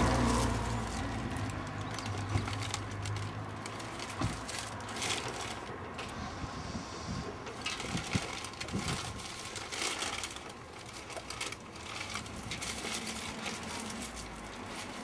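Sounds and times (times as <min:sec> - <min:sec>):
paper bag rustling: 0:00.0 - 0:15.0.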